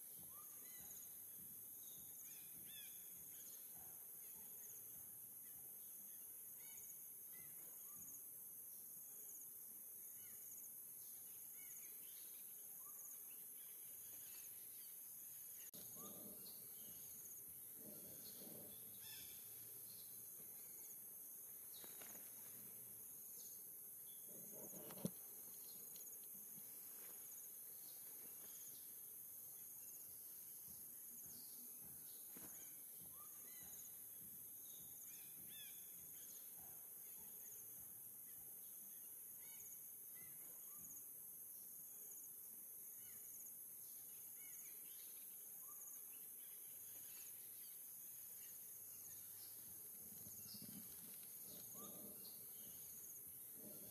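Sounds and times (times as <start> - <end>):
steady high-pitched hiss: 0.0 - 53.9.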